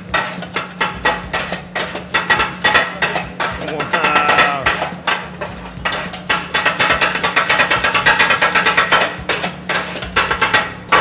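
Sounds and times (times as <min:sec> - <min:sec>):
metal blades chopping on griddle: 0:00.0 - 0:11.0.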